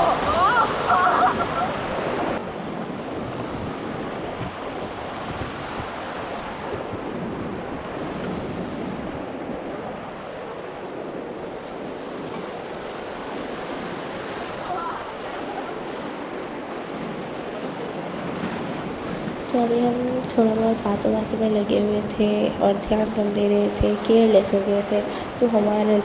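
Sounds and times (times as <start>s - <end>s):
fast-flowing river water: 0.0s - 3.4s, 4.0s - 26.0s
wind buffeting microphone: 0.0s - 26.0s.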